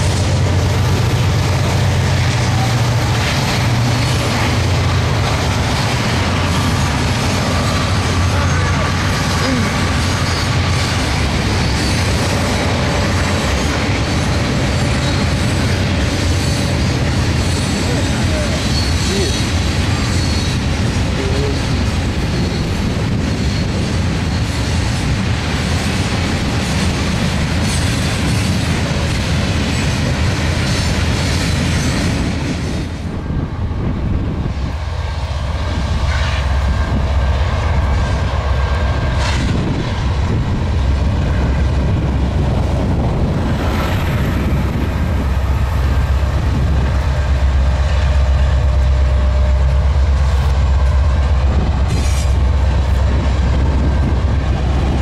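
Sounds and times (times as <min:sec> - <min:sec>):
wheels clattering on rails: 0:00.0 - 0:33.2, 0:34.4 - 0:55.0
diesel locomotive engine rumble: 0:00.0 - 0:55.0.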